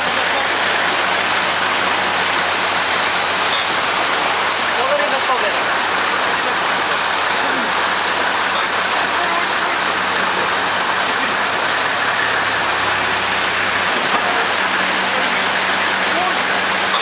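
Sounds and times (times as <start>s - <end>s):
car engine humming at a crawl: 0.0s - 17.0s.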